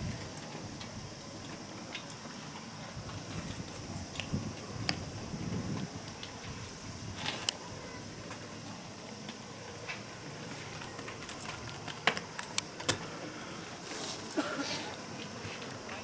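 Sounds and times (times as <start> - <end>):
outdoor ambience: 0.0 - 16.0.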